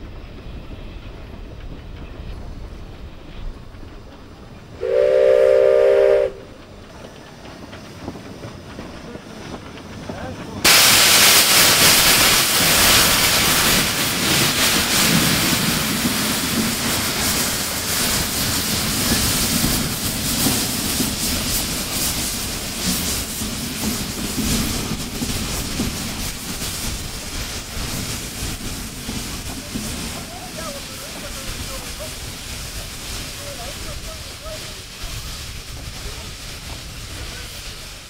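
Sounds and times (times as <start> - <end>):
steam hissing: 0.0 - 38.0
steam locomotive exhaust chuffing: 0.0 - 38.0.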